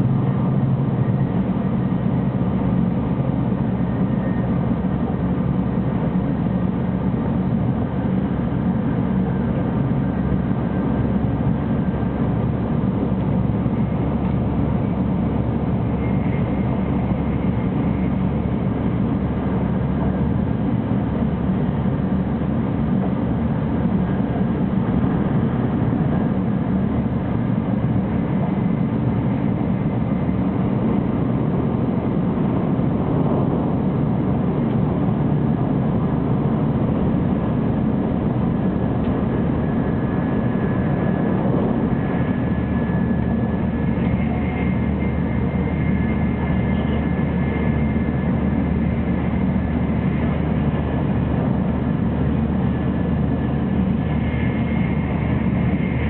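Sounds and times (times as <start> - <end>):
train running at speed: 0.0 - 56.0.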